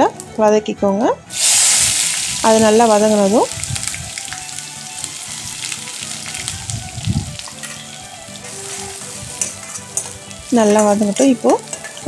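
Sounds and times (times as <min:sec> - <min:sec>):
onions sizzling in hot oil: 0:01.3 - 0:12.0.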